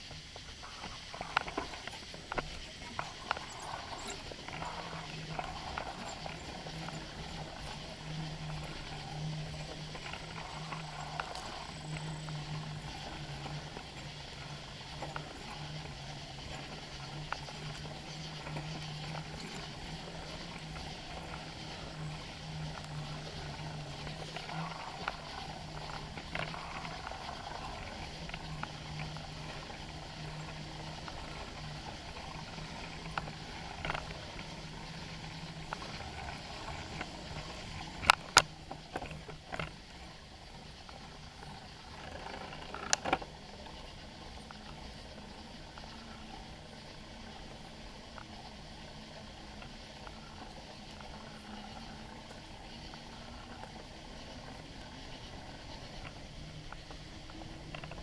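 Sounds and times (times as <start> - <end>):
bicycle rolling noise: 0.0 - 58.0
small rattles and clicks: 0.0 - 58.0.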